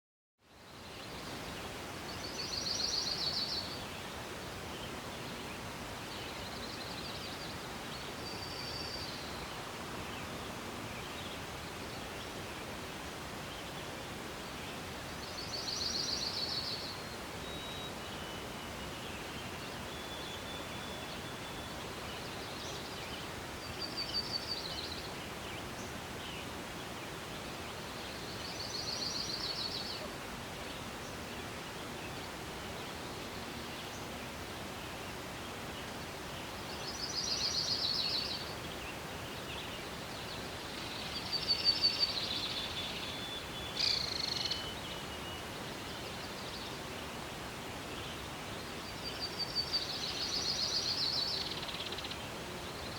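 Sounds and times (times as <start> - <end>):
gentle wind: 0.4 - 52.9
rustling leaves: 0.5 - 52.9.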